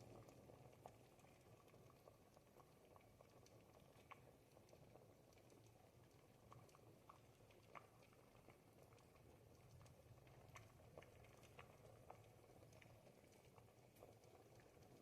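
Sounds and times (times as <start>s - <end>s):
soup bubbles popping: 0.0s - 15.0s.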